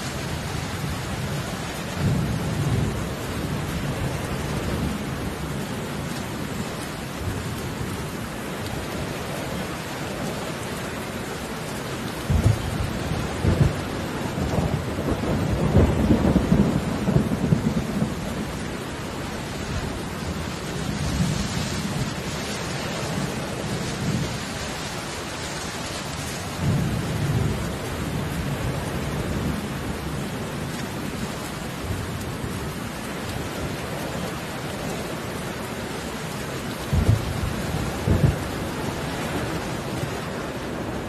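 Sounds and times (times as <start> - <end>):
rain hissing: 0.0 - 41.0.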